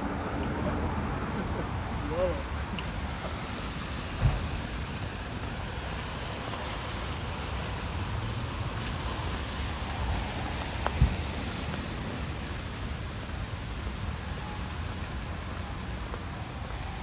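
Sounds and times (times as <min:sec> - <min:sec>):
rain hissing: 0:01.7 - 0:17.0.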